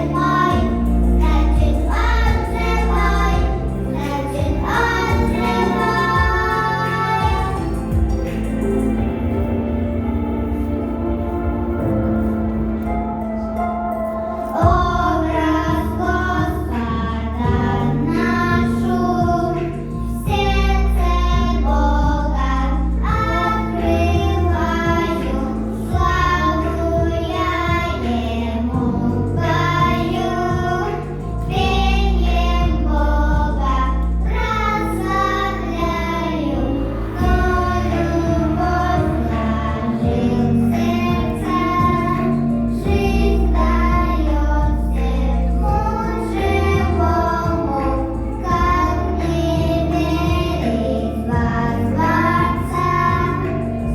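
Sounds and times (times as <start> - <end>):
girls singing together: 0.0 - 9.4, 12.8 - 53.9
backing track with bass line: 0.0 - 53.9.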